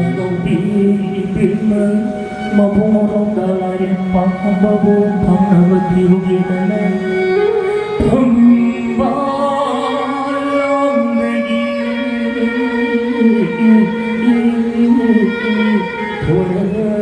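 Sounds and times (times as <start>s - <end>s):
music with singing and instruments: 0.0s - 17.0s.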